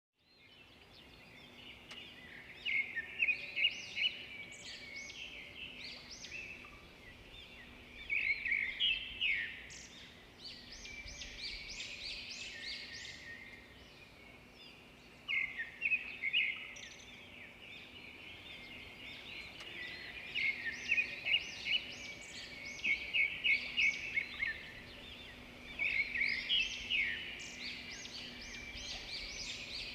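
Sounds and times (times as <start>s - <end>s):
songbirds chirping and trilling: 0.2s - 29.9s.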